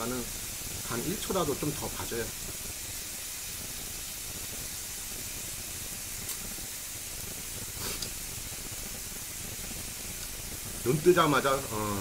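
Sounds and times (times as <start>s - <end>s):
meat sizzling on a grill pan: 0.0s - 12.0s.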